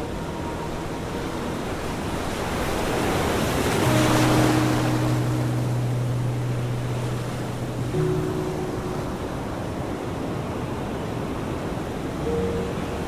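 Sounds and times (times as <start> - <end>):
low steady hum: 0.0 - 10.9
ocean surf rushing: 0.0 - 13.0.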